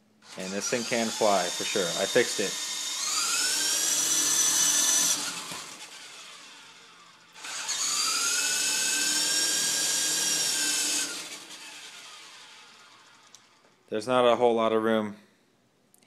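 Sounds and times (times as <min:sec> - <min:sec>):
helicopter rotor motor whining: 0:00.2 - 0:13.7.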